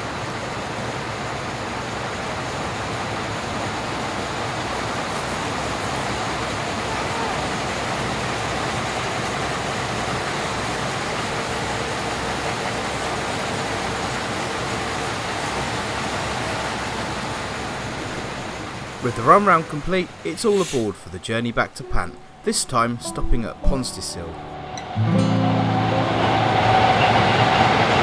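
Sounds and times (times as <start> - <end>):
diesel engine rumble: 0.0 - 28.0
noisy hiss: 0.0 - 28.0.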